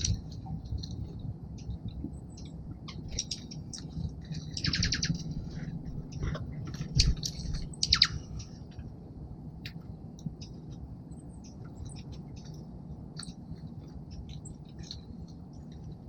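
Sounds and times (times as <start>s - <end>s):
songbirds chipping and chattering: 0.0s - 8.9s, 9.7s - 16.0s.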